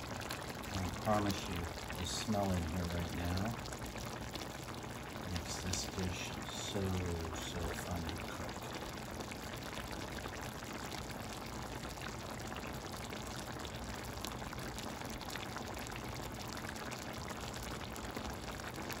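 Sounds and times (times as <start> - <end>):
sauce bubbling in a pan: 0.0 - 19.0.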